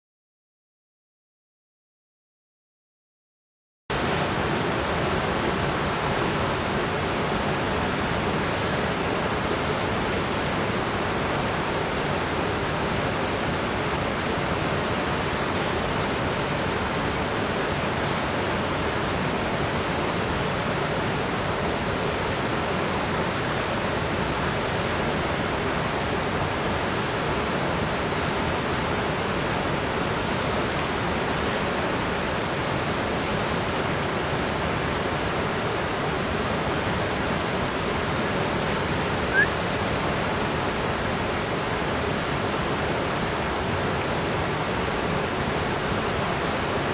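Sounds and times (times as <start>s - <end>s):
fast-flowing creek water: 3.9s - 46.9s.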